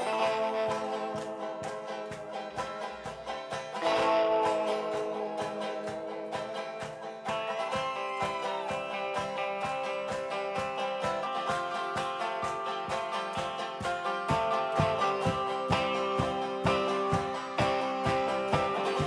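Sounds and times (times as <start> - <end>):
banjo picking: 0.0 - 19.0
electric guitar: 0.0 - 19.0.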